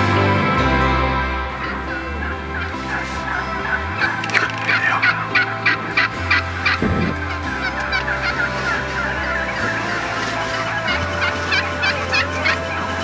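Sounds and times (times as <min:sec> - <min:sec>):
turkeys gobbling: 0:01.5 - 0:13.0.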